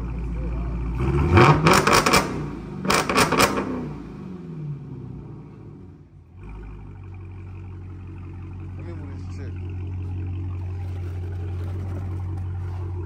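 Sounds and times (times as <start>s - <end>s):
exhaust cracks: 0.0s - 4.9s, 5.5s - 13.0s
car engine revving: 0.0s - 13.0s.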